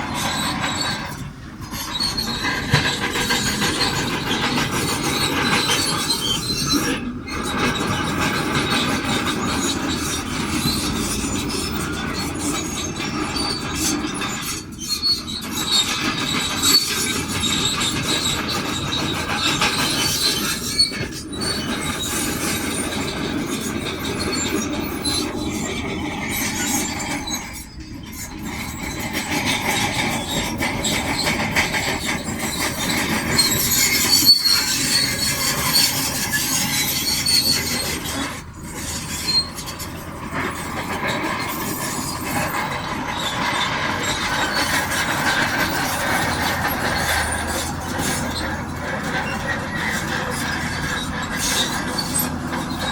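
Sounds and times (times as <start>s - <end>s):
bulldozer engine running: 0.0s - 52.9s
steel tracks squealing and clattering: 0.0s - 52.9s.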